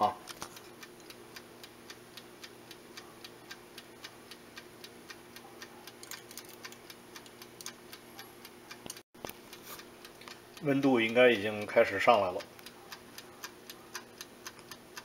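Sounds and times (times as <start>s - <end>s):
wind-up timer ticking: 0.5s - 15.0s.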